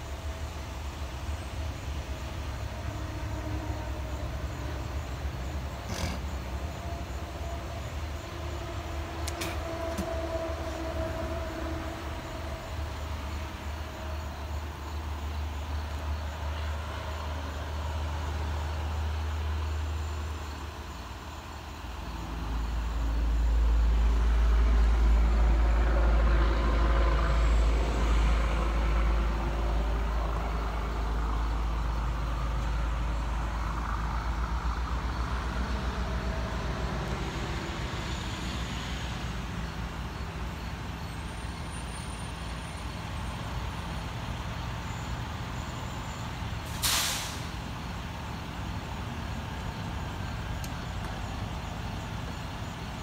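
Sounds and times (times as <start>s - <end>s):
diesel truck engine running: 0.0s - 53.0s.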